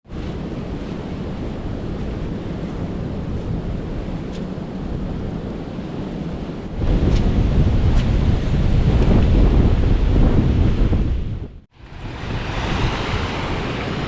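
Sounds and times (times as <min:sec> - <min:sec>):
sea surf on a beach: 0:00.0 - 0:14.0
wind buffeting microphone: 0:00.0 - 0:14.0.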